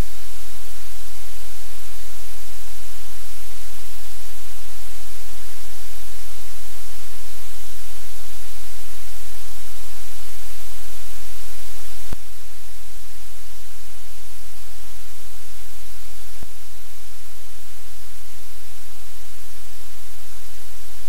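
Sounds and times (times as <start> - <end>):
loud steady hiss: 0.0 - 21.0
low electrical hum: 0.0 - 21.0.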